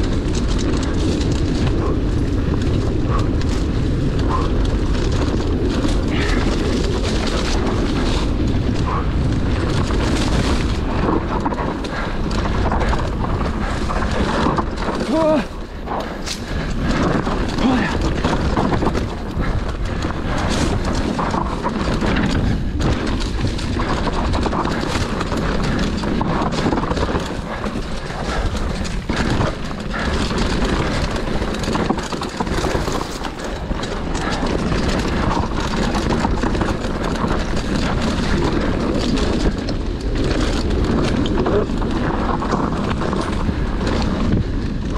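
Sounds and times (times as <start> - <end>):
bike knocking and rattling: 0.0 - 44.9
bike tyres rolling on dirt: 0.0 - 44.9
wind on microphone: 0.0 - 44.9.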